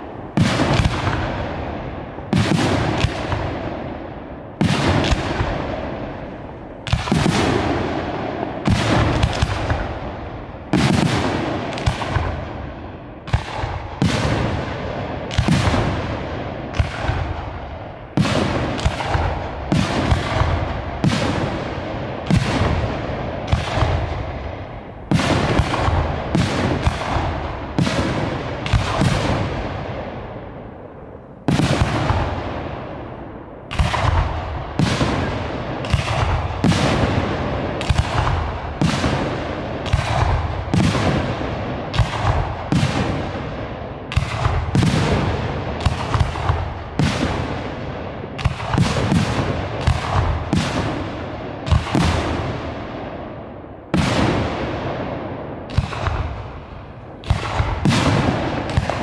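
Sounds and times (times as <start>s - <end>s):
fireworks bangs with echo: 0.0s - 59.0s.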